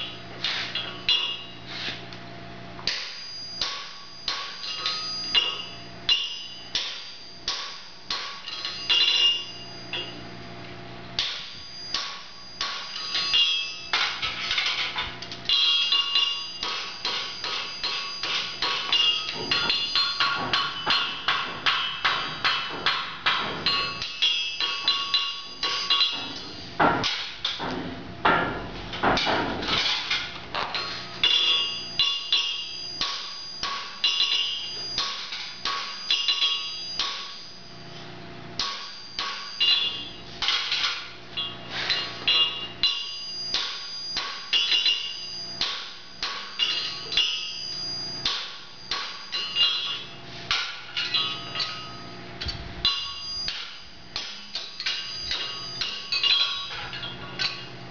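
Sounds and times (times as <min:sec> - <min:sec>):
hammer striking horseshoe on anvil: 0:00.0 - 0:01.6, 0:02.8 - 0:10.2, 0:11.2 - 0:37.5, 0:38.6 - 0:57.8.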